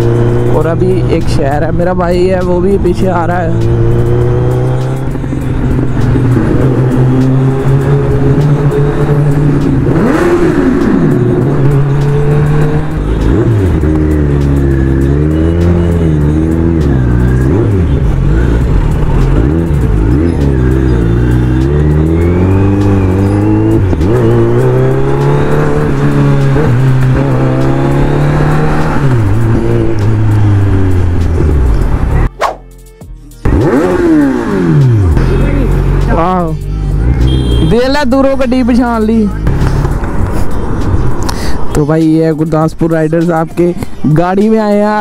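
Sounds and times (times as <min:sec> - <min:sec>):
motorcycle engine revving: 0:00.0 - 0:32.3, 0:33.4 - 0:41.7.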